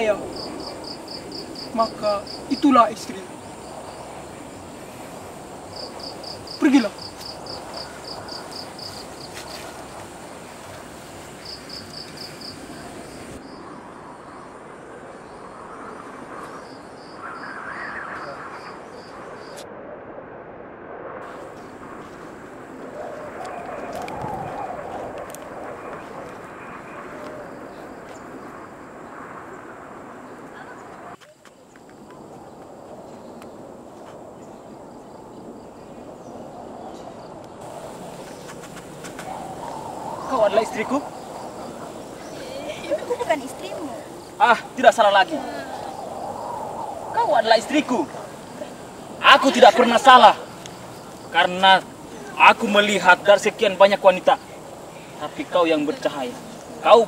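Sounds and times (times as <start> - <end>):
background hiss: 0.0 - 19.6, 21.3 - 57.0
insect chirping: 0.0 - 19.6, 21.2 - 57.0
steady high drone: 0.0 - 31.2, 32.0 - 57.0.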